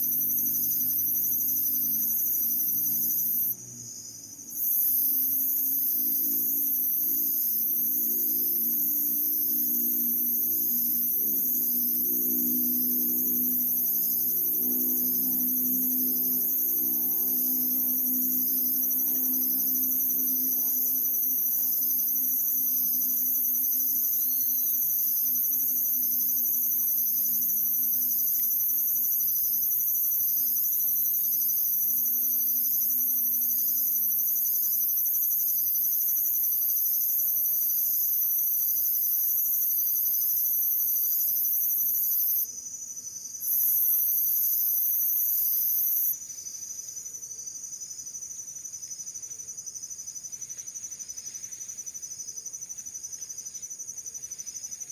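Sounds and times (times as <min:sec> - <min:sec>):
high-pitched insect chorus pulsing: 0:00.0 - 0:54.8.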